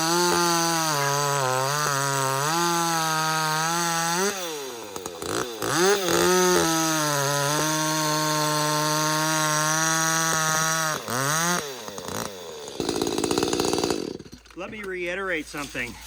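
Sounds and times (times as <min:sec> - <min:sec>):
chainsaw cutting at high revs: 0:00.0 - 0:14.6.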